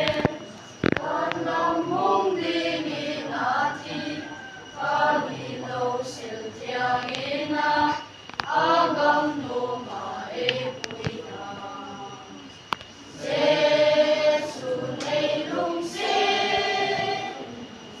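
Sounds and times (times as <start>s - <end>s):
children's choir singing: 0.0s - 18.0s.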